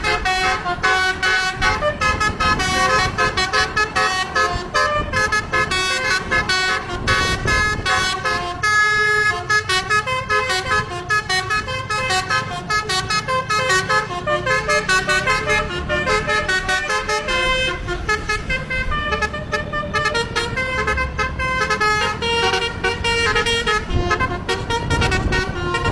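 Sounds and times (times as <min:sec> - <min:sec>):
multi-tone air horns playing tunes: 0:00.0 - 0:25.9.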